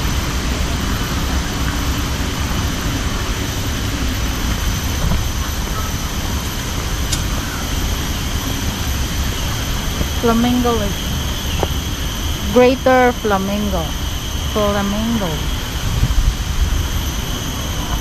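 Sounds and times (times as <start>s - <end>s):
steady rumbling noise: 0.0s - 18.0s.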